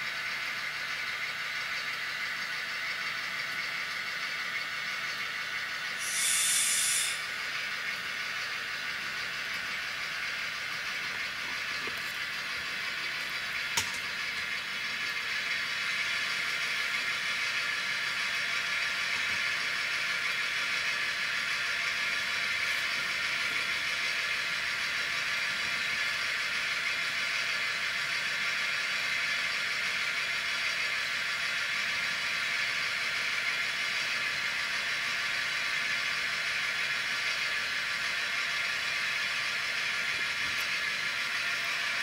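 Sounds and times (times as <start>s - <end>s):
diesel engine running through small speaker: 0.0s - 42.0s.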